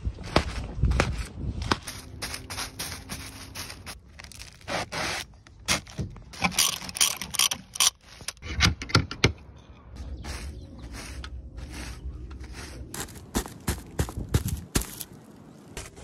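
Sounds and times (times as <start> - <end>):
reed thatch scraping and rustling: 1.1 - 8.4, 10.2 - 16.0.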